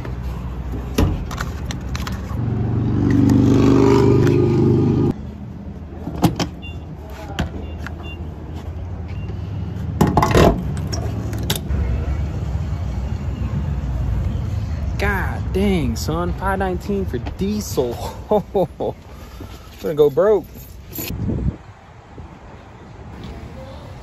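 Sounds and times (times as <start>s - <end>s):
vehicle engine hum: 0.0s - 24.0s.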